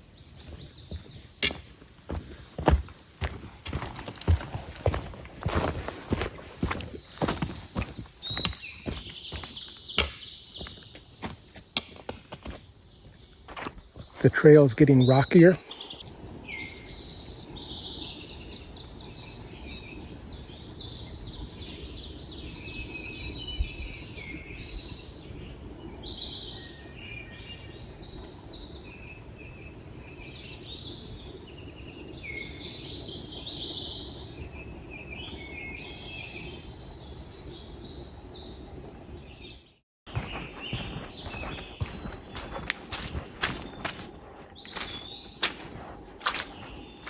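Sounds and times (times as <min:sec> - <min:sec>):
songbirds singing: 0:00.0 - 0:47.0.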